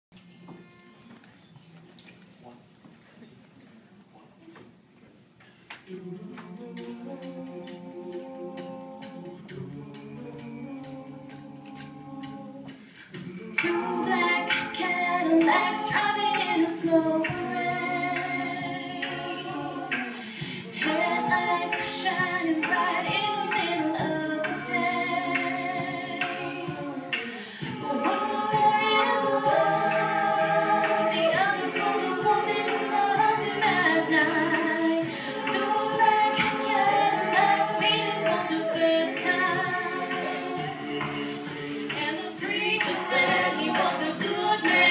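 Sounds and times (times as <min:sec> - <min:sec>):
a cappella group singing: 0:05.8 - 0:44.9.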